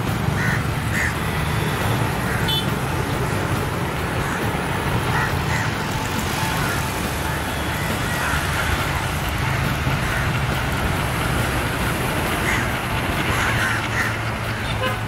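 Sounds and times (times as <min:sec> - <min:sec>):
diesel locomotive engine rumble: 0:00.0 - 0:15.0
street traffic noise: 0:00.0 - 0:15.0.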